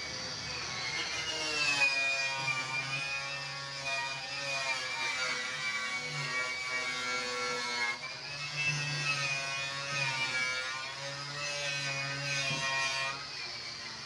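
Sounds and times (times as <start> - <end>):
angle grinder on sheet metal: 0.0 - 14.0.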